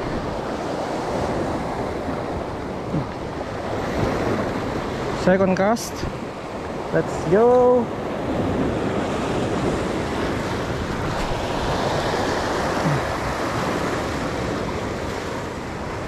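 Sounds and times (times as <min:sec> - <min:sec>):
sea surf washing over rocks: 0:00.0 - 0:16.0.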